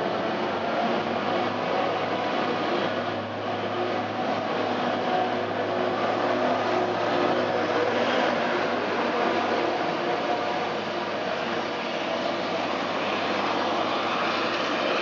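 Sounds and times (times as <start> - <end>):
railcar engine drone: 0.0 - 15.0
wheels rumbling on rails: 0.0 - 15.0.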